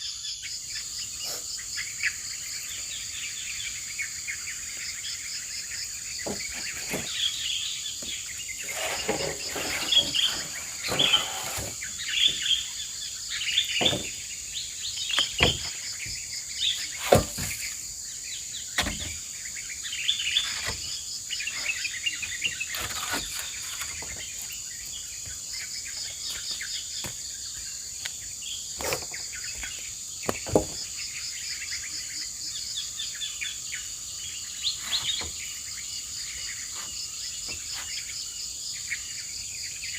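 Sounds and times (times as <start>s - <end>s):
birds chirping: 0.0s - 39.9s
insect drone: 0.0s - 39.9s.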